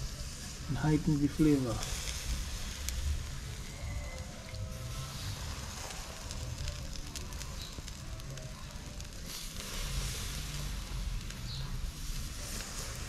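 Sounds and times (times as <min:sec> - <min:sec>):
chicken sizzling on a grill: 0:00.0 - 0:13.0
hot coals crackling: 0:00.0 - 0:13.0.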